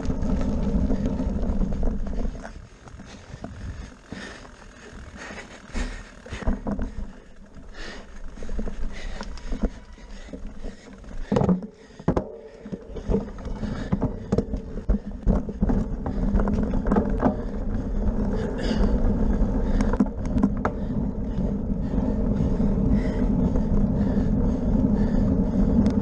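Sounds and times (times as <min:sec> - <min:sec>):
bicycle rattling and knocking: 0:00.0 - 0:26.0
rolling rumble: 0:00.0 - 0:26.0.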